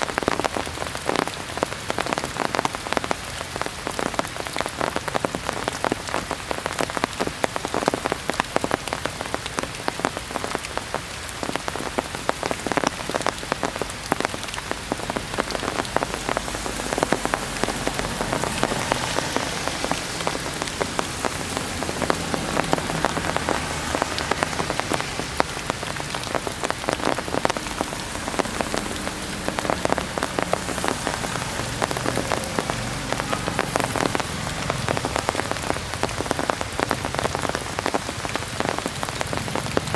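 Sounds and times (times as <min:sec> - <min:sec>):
heavy rain drumming: 0:00.0 - 0:39.9.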